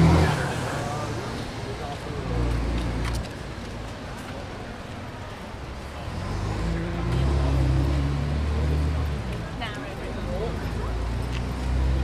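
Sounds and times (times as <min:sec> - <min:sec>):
city street noise: 0:00.0 - 0:12.0
vehicle engine hum: 0:00.0 - 0:12.0.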